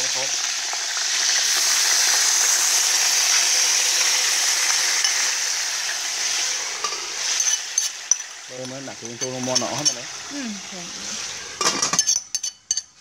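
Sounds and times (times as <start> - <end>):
liquid sizzling in hot pot: 0.0 - 13.0.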